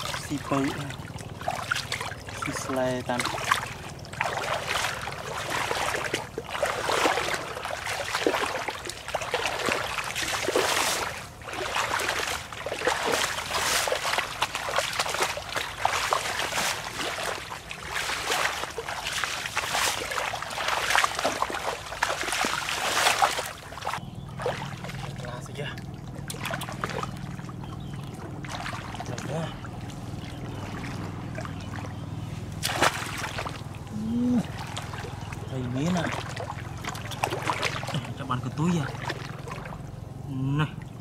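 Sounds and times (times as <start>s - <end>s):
bare feet wading through water: 0.0s - 41.0s.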